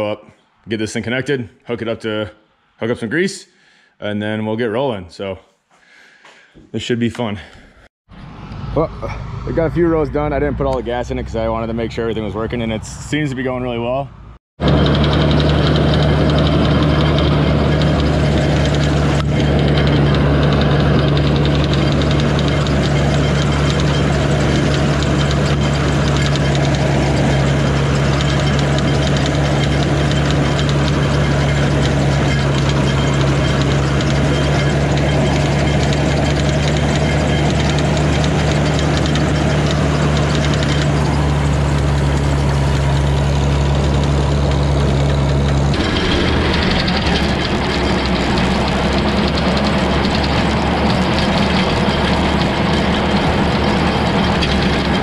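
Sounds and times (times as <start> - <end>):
tractor engine running: 8.1 - 55.0.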